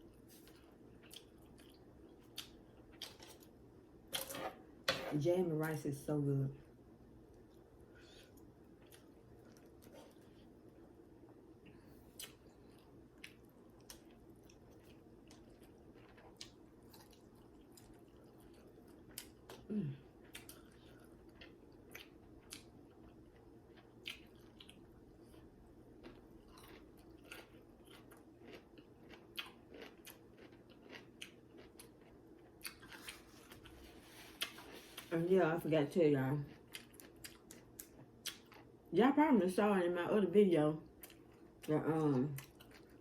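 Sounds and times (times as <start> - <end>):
person chewing food: 0.0 - 4.3, 7.2 - 35.1, 36.5 - 38.8, 40.9 - 41.7, 42.4 - 43.0.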